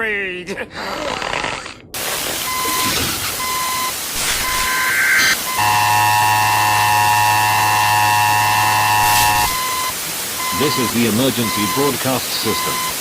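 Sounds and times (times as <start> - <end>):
static hiss: 2.0 - 13.0
multi-tone attention signal: 2.5 - 13.0
short beeps: 2.5 - 13.0.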